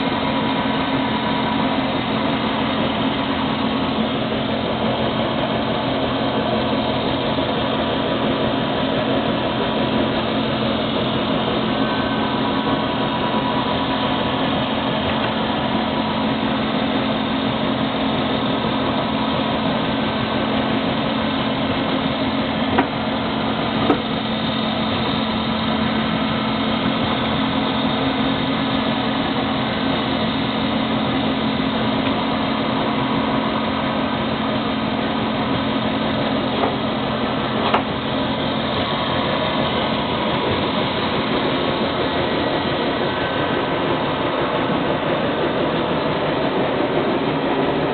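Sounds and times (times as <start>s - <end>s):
drilling machine motor hum: 0.0s - 47.9s.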